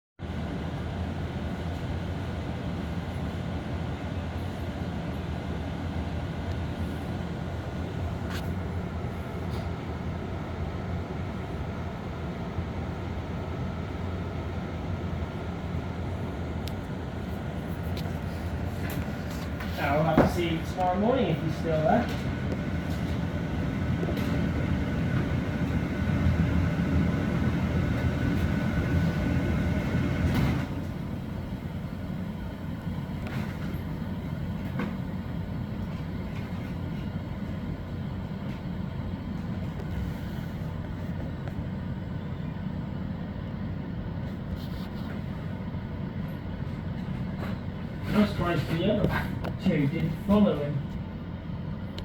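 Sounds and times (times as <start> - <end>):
faint steady whine: 0.2 - 52.0
low mechanical rumble: 0.2 - 52.0.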